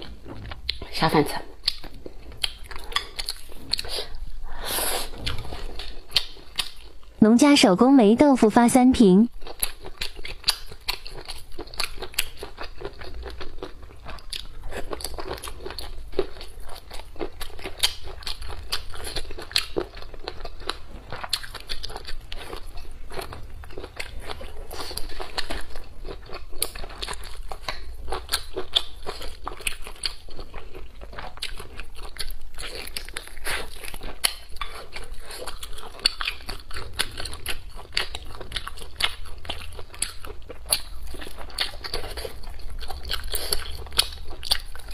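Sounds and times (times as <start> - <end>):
person chewing and biting: 0.0 - 7.1, 9.3 - 44.9.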